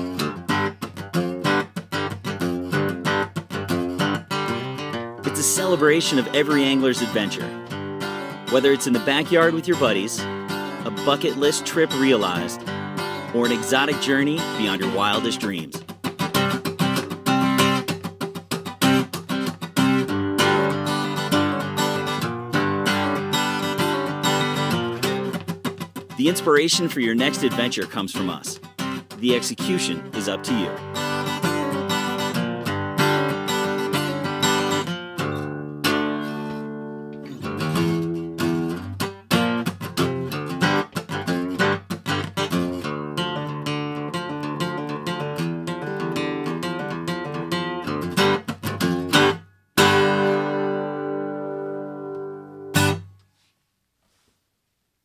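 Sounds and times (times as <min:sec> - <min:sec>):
strummed guitar music: 0:00.0 - 0:53.2.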